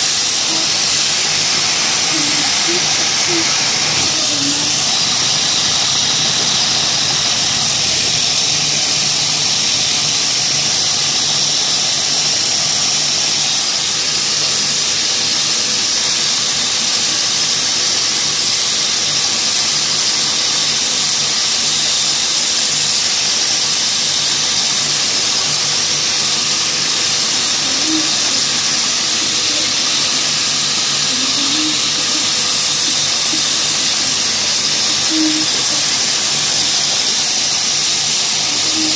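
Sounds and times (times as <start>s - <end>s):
machine whirring hiss: 0.0s - 38.9s.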